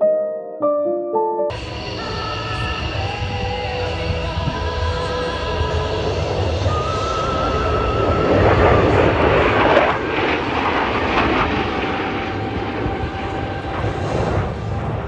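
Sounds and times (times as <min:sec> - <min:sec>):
jet engine roar flying past: 0:01.5 - 0:15.0.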